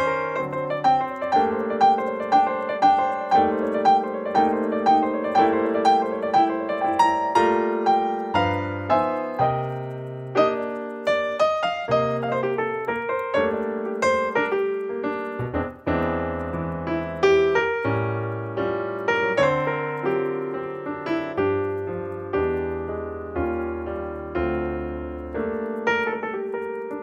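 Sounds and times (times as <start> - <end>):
gentle solo piano melody: 0.0 - 27.0.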